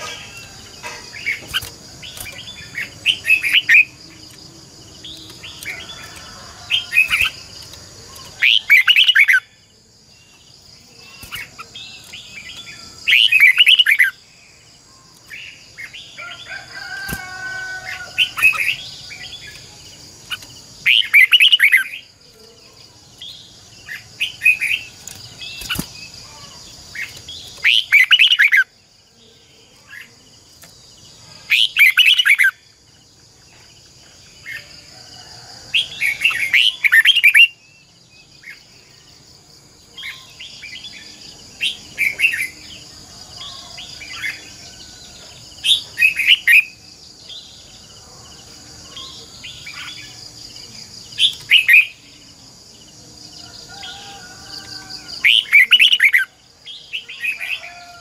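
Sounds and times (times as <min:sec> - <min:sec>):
bird singing warbled phrases: 0:00.0 - 0:32.7, 0:35.8 - 0:39.1, 0:39.8 - 0:44.6, 0:45.5 - 0:47.8, 0:48.8 - 0:52.8, 0:54.7 - 0:58.0.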